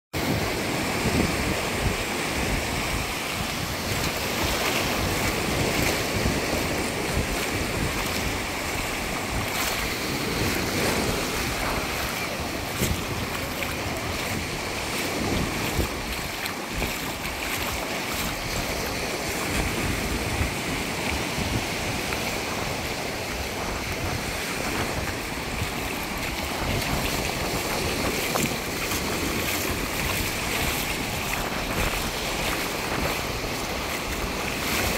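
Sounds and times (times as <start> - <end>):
wind buffeting microphone: 0.1 - 34.9
surf washing up a sandy beach: 0.2 - 34.9.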